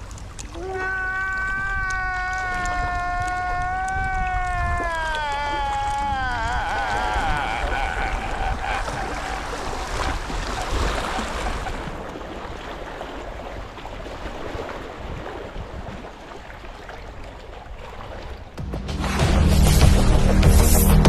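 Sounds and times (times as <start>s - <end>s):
waves splashing against rocks: 0.0s - 19.4s.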